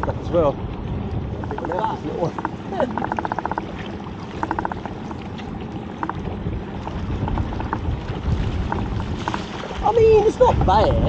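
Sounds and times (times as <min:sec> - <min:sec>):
wind: 0:00.0 - 0:11.0
water washing: 0:01.2 - 0:11.0.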